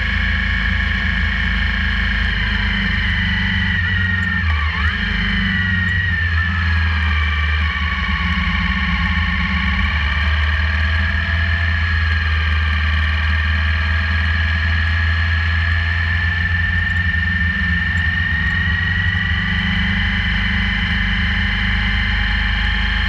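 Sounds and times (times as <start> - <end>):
motorcycle engine rumbling: 0.0 - 23.0
steady high whine: 0.0 - 23.0.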